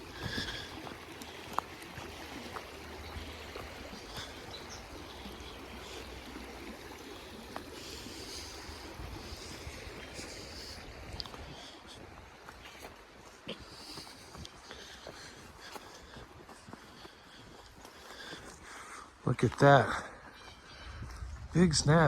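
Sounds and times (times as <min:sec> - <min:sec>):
creek flowing: 0:00.0 - 0:22.0.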